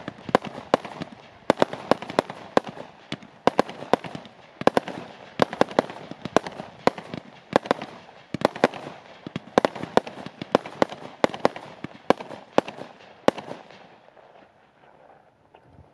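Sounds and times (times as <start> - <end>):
fireworks crackle: 0.0 - 14.0
fireworks bangs: 0.0 - 14.4.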